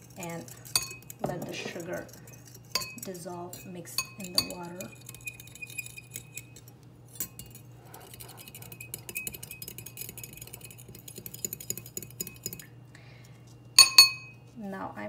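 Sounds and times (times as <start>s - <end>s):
fork clinking against glass bowl: 0.5s - 12.7s, 13.8s - 14.4s.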